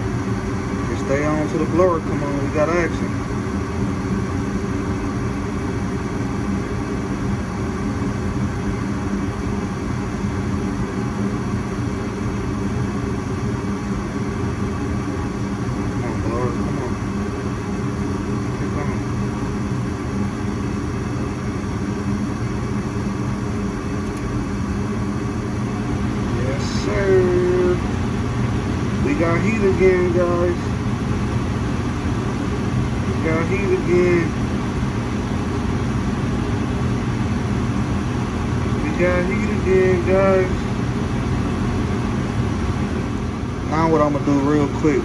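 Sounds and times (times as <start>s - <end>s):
gas furnace humming: 0.0s - 45.0s.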